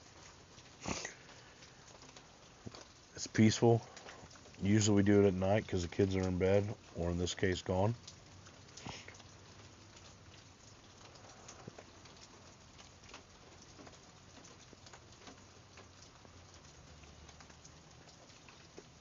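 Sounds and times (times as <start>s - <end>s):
rain pattering: 0.0s - 19.0s
water drips: 0.0s - 19.0s.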